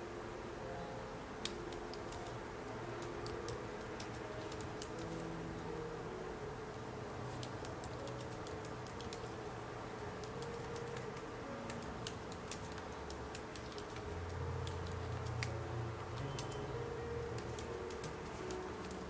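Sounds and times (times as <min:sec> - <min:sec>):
laptop keyboard typing: 0:01.4 - 0:05.6, 0:07.2 - 0:19.0.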